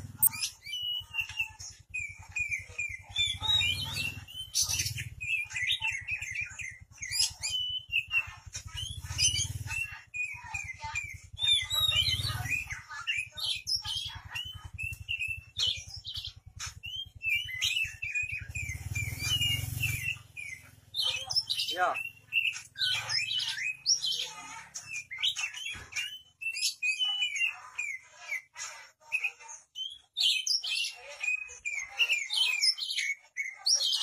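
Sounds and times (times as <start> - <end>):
songbird singing: 0.0 - 28.5.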